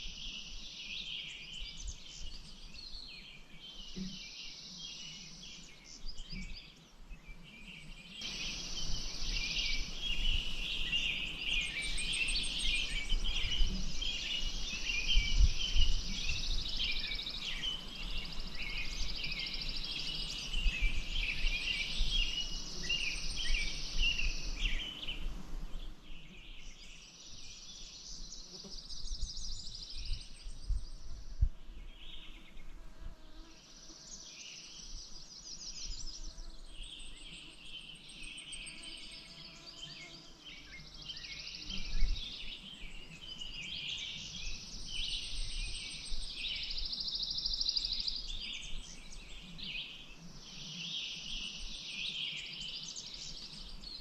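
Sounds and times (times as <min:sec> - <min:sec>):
birds chirping and singing: 0:00.3 - 0:32.6, 0:34.5 - 0:54.0.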